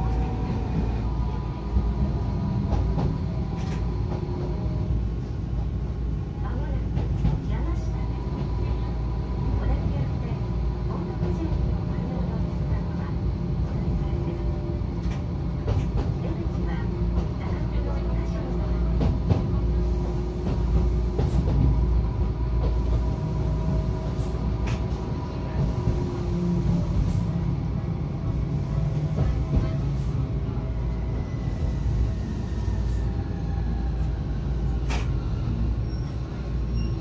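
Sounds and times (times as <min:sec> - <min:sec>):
train motors and wheels rumbling: 0:00.0 - 0:37.0.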